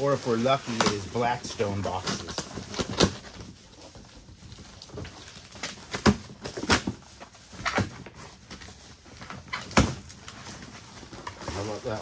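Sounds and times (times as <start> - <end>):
rustling packing material: 0.0 - 12.0.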